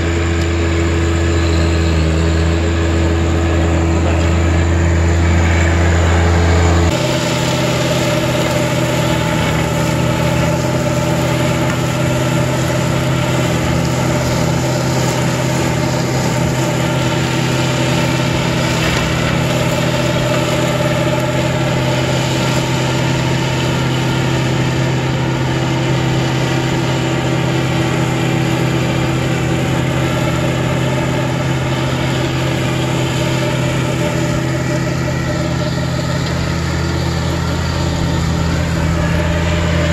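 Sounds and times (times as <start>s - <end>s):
tractor diesel engine rumbling: 0.0s - 39.9s.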